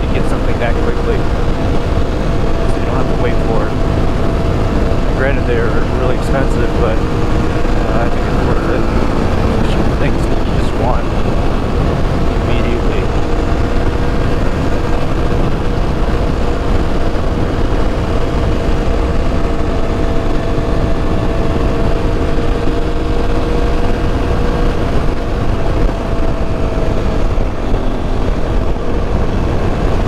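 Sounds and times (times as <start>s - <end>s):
motorcycle engine cruising: 0.0s - 30.0s
wind rush on microphone: 0.0s - 30.0s.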